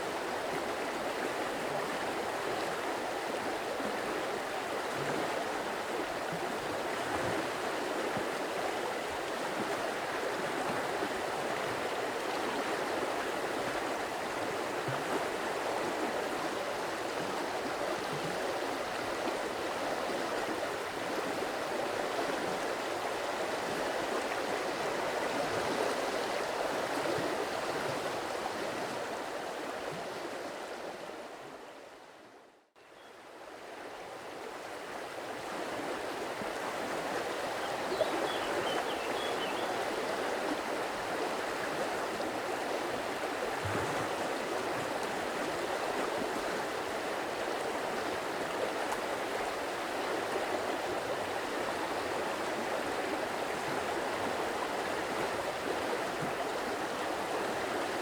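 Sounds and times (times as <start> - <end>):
stream water flowing: 0.0 - 32.4, 33.1 - 58.0.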